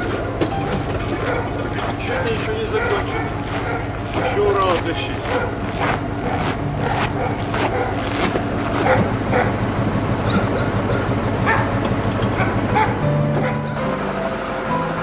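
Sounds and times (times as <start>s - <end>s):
dogs barking: 0.0s - 14.0s
low engine hum: 0.0s - 15.0s.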